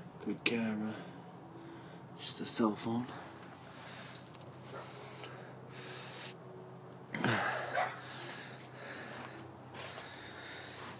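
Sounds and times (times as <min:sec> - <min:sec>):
faint steady low hum: 0:00.0 - 0:10.9.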